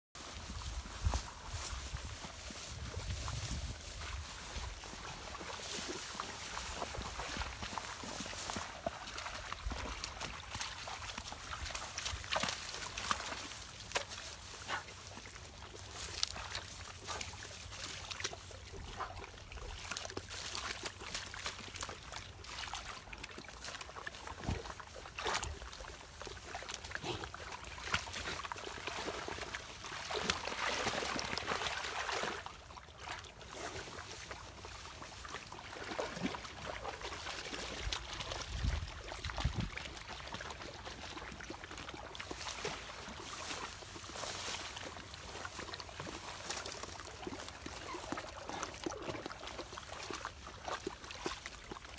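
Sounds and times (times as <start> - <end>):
dogs splashing through water: 0.2 - 51.9.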